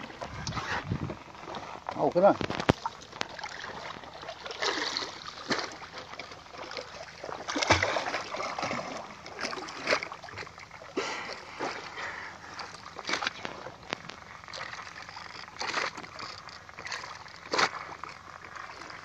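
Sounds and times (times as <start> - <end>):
sea water splashing against boat: 0.0 - 19.0.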